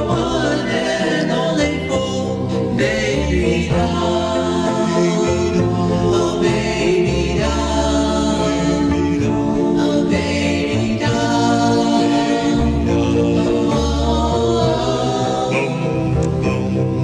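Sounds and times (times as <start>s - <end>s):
bass line: 0.0s - 17.0s
vocal group singing harmonies: 0.0s - 17.0s.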